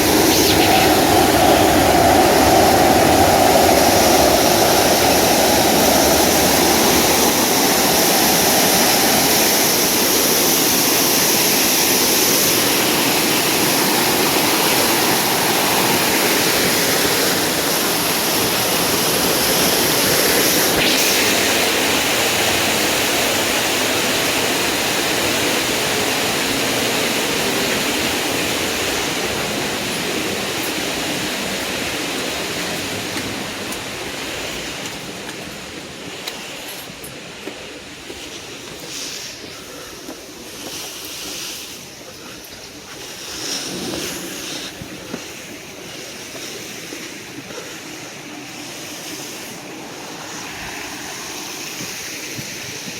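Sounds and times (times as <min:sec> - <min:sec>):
waterfall rushing: 0:00.0 - 0:36.5, 0:43.1 - 0:52.9.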